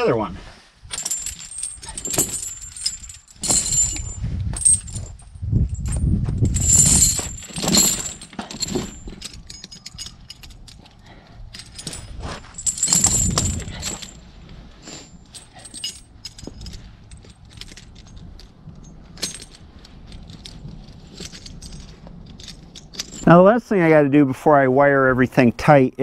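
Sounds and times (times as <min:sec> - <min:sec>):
tire chains clinking and rattling: 0:00.9 - 0:23.5.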